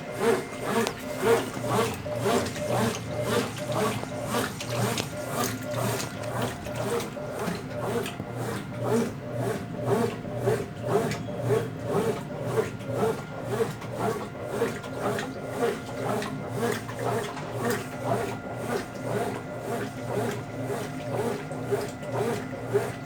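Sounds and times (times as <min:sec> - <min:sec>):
washing machine churning: 0:00.0 - 0:23.0
washing machine motor hum: 0:00.0 - 0:23.0.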